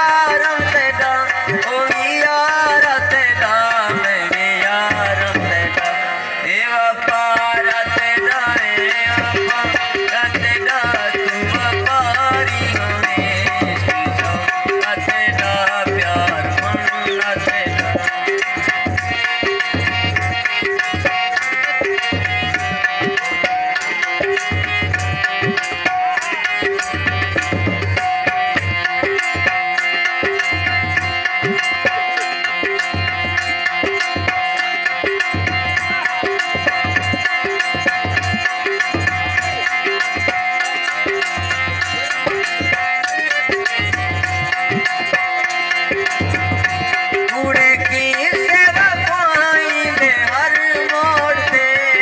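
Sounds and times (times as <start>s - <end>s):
harmonium notes: 0.0s - 52.0s
tabla rhythm: 0.0s - 52.0s.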